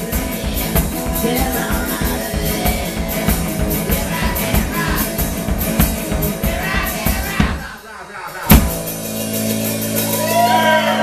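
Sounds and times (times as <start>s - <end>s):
electric guitar: 0.0s - 7.8s, 8.4s - 11.0s
kick drum and cymbal beat: 0.0s - 7.8s, 8.5s - 10.5s
person singing: 0.0s - 8.8s.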